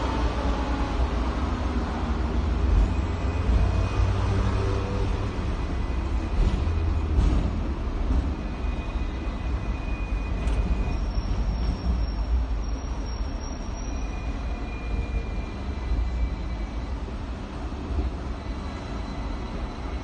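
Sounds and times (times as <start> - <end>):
tram rumbling along rails: 0.0 - 20.0.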